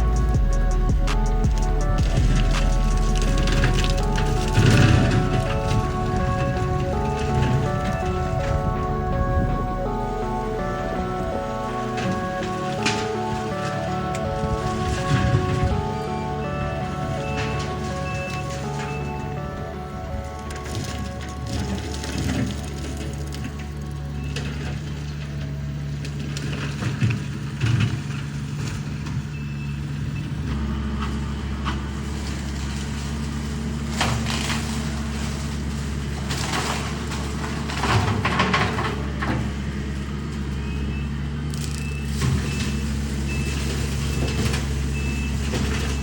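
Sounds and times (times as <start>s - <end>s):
skid steer engine running: 0.0s - 46.0s.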